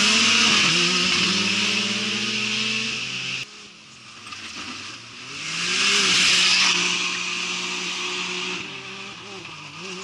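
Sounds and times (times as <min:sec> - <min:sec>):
engine revving: 0:00.0 - 0:03.7, 0:04.6 - 0:10.0.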